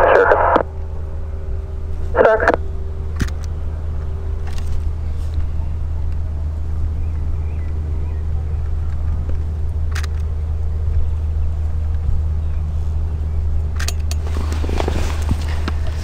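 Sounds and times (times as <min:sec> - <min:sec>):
faint steady tone: 0:00.0 - 0:14.6
propeller aircraft engine droning: 0:00.0 - 0:16.0.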